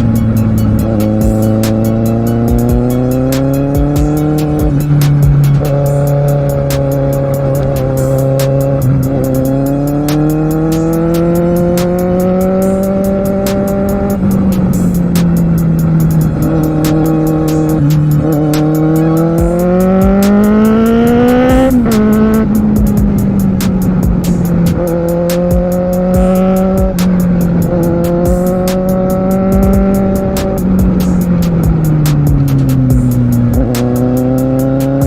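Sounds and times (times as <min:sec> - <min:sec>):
motorcycle engine revving: 0:00.0 - 0:35.0
music with a regular beat: 0:00.0 - 0:35.0.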